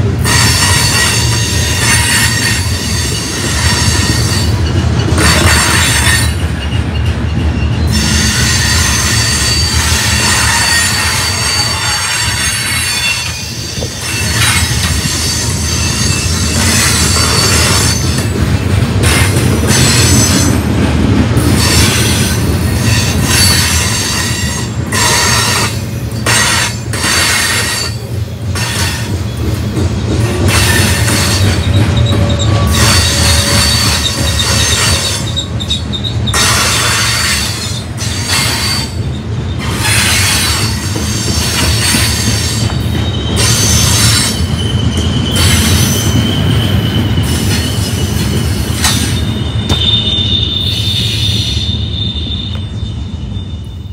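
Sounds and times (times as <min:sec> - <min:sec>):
steel wheels rumbling on rail: 0:00.0 - 0:53.9
high thin wheel squeals: 0:00.2 - 0:18.3, 0:21.6 - 0:28.0, 0:30.5 - 0:53.9.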